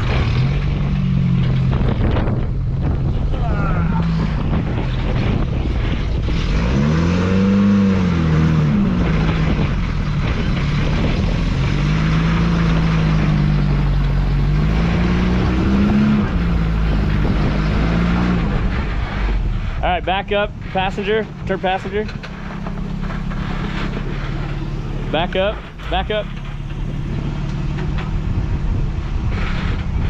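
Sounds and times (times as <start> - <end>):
rough rushing noise: 0.0 - 30.0
truck engine revving: 0.0 - 30.0.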